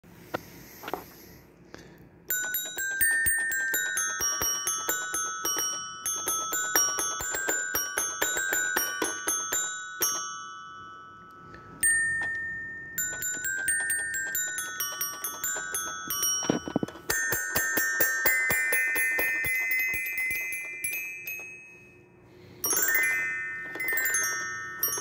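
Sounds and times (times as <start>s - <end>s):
toy xylophone notes ringing: 2.3s - 25.0s.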